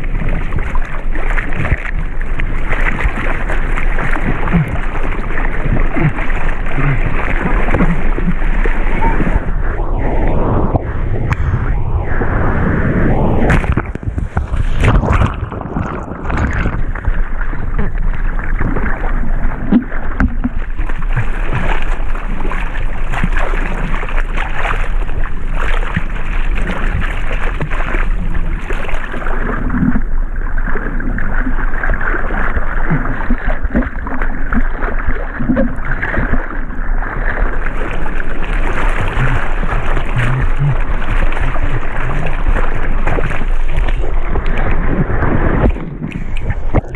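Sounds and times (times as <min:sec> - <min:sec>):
water sloshing around surfboard: 0:00.0 - 0:12.0, 0:13.1 - 0:46.9.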